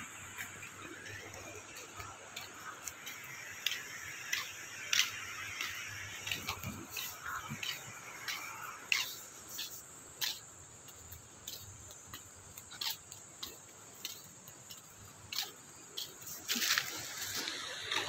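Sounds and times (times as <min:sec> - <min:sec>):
high-pitched insect drone: 0:00.0 - 0:18.0
footsteps on concrete: 0:00.2 - 0:18.0.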